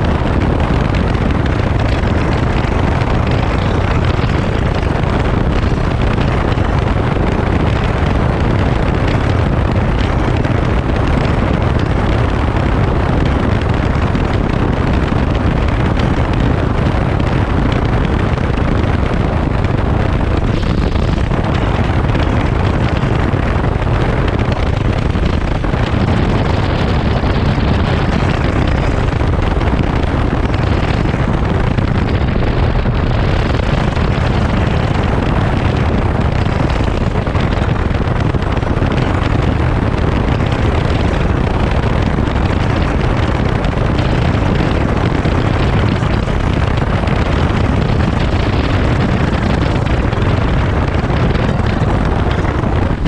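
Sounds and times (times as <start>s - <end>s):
motorcycle engine running: 0.0s - 53.0s
wind rush over microphone: 0.0s - 53.0s.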